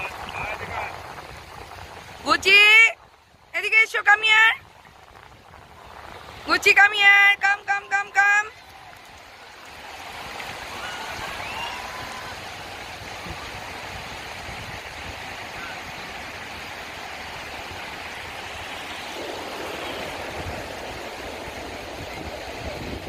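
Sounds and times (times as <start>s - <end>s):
waves washing over sand: 0.0s - 23.0s.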